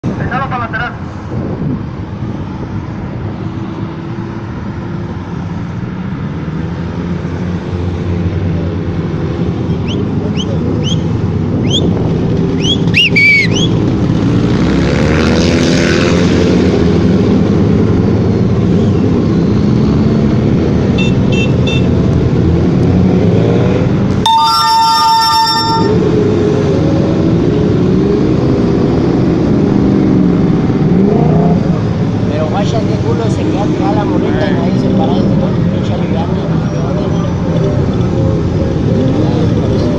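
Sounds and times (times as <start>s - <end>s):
motorcycle engines running: 5.1s - 39.9s.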